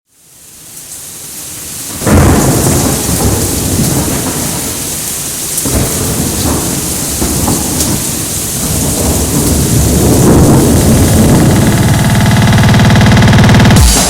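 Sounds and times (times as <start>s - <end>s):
rain falling: 0.1s - 14.0s
thunder rumbling: 1.9s - 14.0s.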